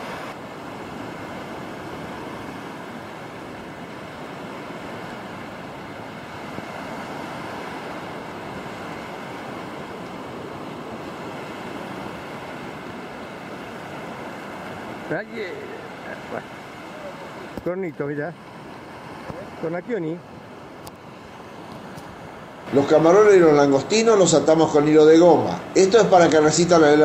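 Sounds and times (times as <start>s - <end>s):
small surf waves breaking: 0.0s - 27.0s.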